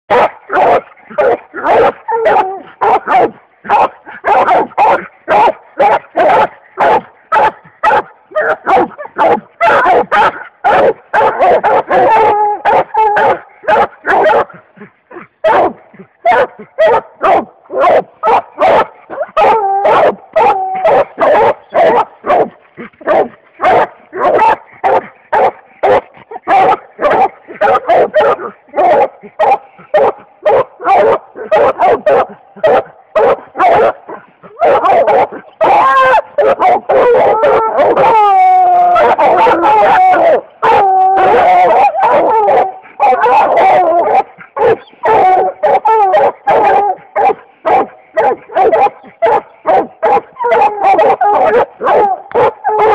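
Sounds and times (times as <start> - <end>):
hound barking: 0.1 - 52.9.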